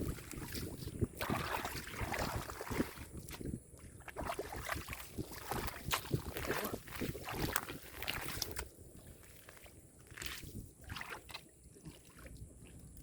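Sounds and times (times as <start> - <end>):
wind on microphone: 0.0 - 11.4
hands splashing in muddy water: 0.0 - 12.8.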